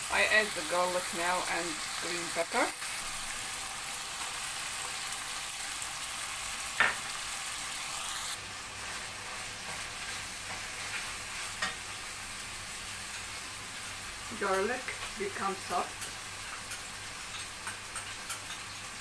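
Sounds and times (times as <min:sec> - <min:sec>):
meat sizzling in a frying pan: 0:00.0 - 0:19.0.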